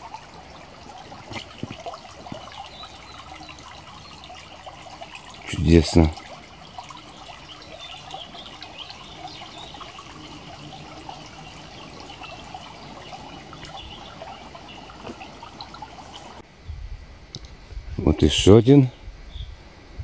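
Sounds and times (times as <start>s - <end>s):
brook babbling over stones: 0.0s - 16.4s.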